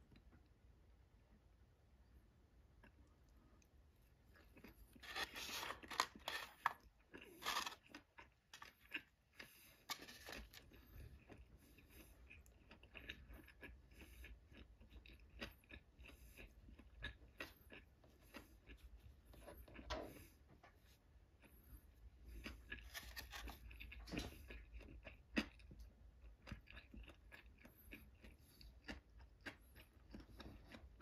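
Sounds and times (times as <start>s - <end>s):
crunching of eating: 2.8s - 20.3s, 21.3s - 31.0s.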